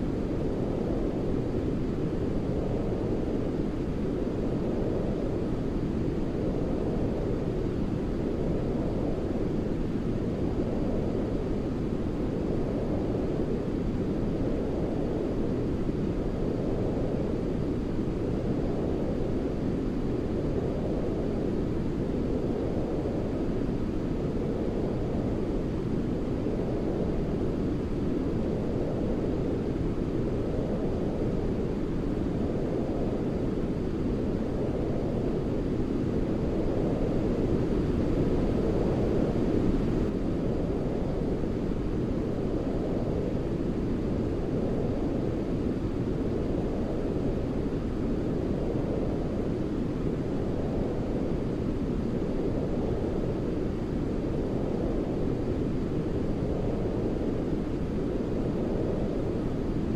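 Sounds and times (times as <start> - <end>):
deep rumbling white noise: 0.0 - 59.9.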